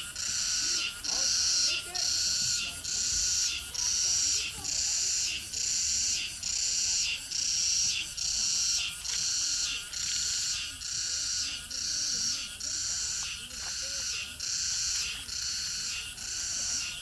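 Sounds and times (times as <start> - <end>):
high-pitched insect buzzing: 0.0 - 17.0.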